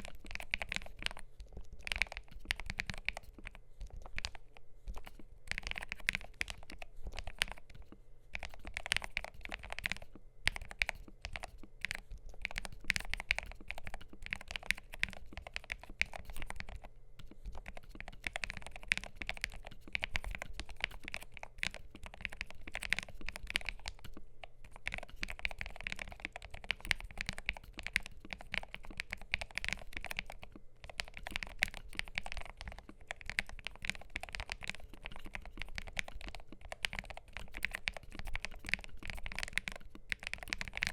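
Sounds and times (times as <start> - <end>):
fast keyboard typing clicks: 0.0 - 40.9.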